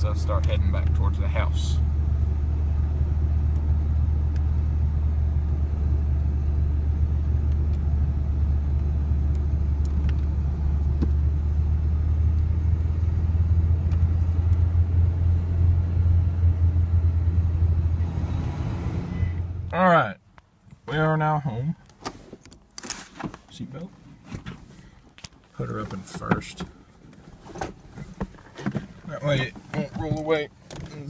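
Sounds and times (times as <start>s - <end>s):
engine and road rumble in cab: 0.0s - 31.0s.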